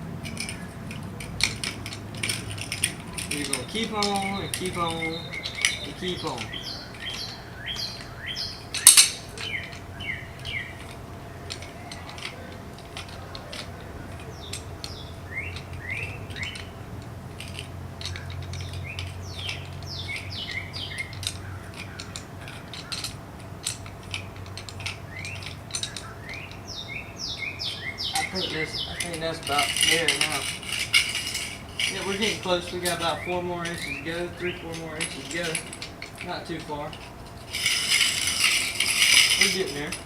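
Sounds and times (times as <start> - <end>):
high falling chirps: 0.0 - 40.0
jack being wound clicking: 0.0 - 40.0
steady low hum: 0.0 - 40.0.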